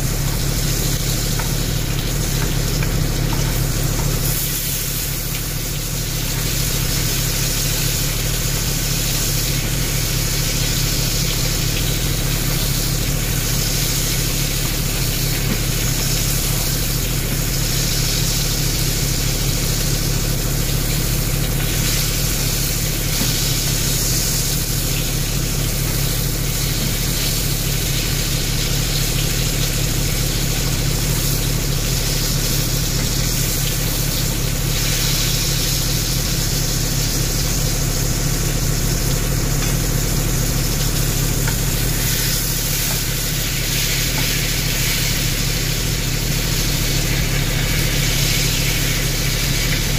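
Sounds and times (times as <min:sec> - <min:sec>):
low hum: 0:00.0 - 0:49.9
steak sizzling in a pan: 0:00.0 - 0:49.9.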